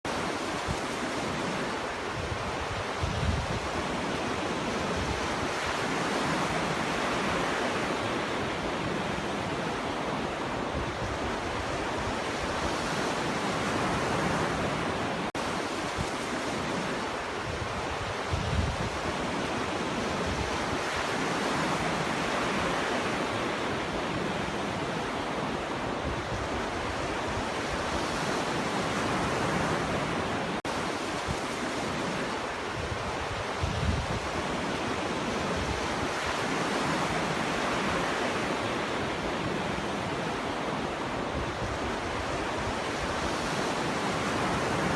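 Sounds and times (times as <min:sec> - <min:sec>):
surf rushing ashore: 0:00.0 - 0:44.9.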